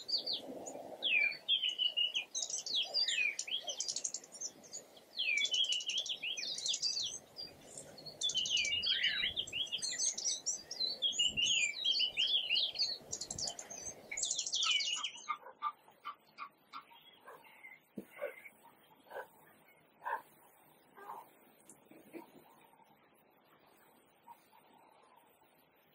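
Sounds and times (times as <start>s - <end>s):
songbirds singing: 0.0s - 25.9s.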